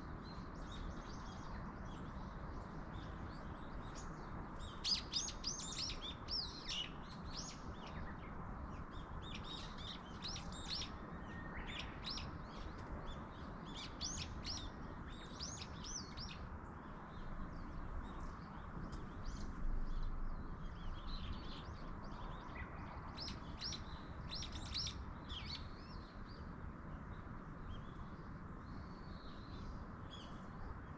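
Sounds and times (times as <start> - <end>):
small songbirds chirping: 0.0 - 30.9
steady outdoor hiss: 0.0 - 30.9.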